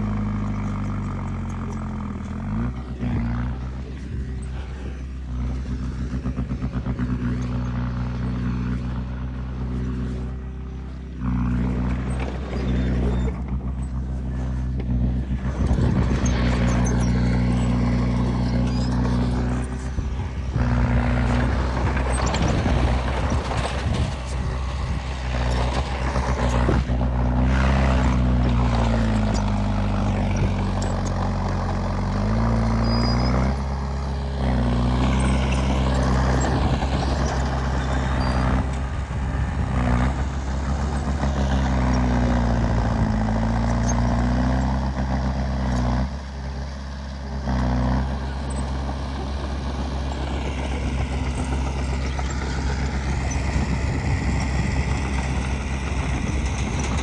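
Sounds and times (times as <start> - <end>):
heavy diesel machine engine: 0.0 - 57.0.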